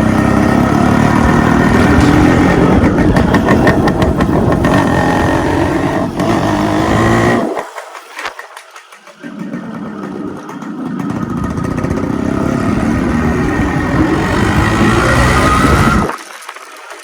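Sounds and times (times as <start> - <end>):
two-stroke motorcycle engine running: 0.0 - 16.1.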